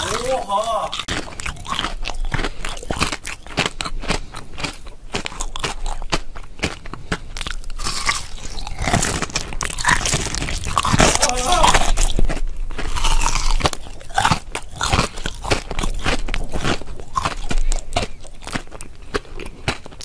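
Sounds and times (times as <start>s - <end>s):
chewing: 0.0s - 20.0s
crunchy candy cracking: 0.0s - 20.0s.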